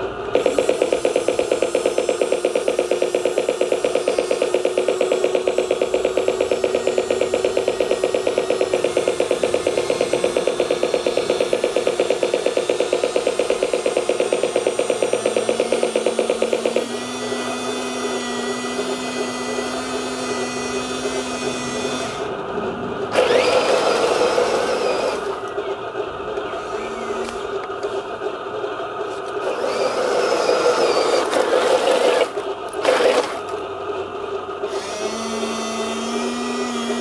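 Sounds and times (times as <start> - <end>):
turret motor whine: 0.0 - 37.0
toy tank motor pulsing: 0.3 - 22.4, 23.1 - 37.0
motor whine driving over gravel: 2.7 - 35.6.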